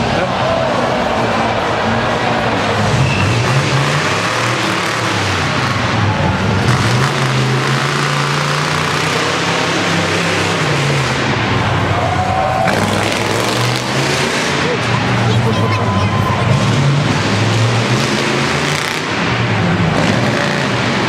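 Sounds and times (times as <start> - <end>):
truck engine running hard: 0.0 - 21.0.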